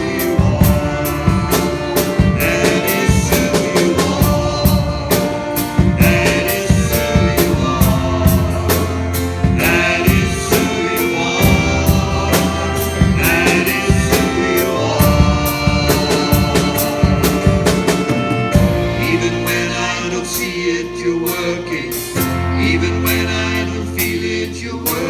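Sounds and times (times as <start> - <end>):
drum kit beat: 0.0 - 23.3
person singing: 0.0 - 25.0
worship band music: 0.0 - 25.0.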